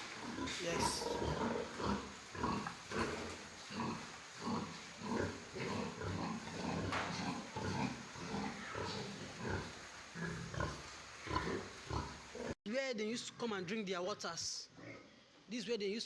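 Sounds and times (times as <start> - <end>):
pigs grunting: 0.0 - 12.6, 14.8 - 15.2.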